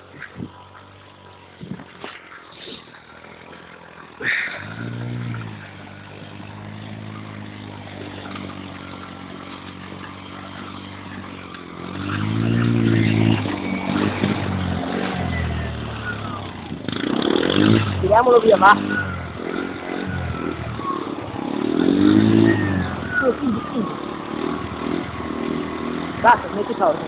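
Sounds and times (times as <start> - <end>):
quad engine starting and revving: 0.0 - 27.0.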